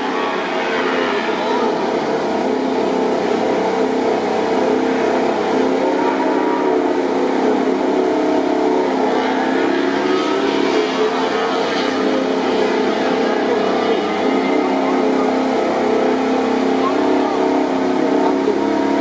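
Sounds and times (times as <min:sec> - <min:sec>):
racing motorcycle engines droning: 0:00.0 - 0:19.0.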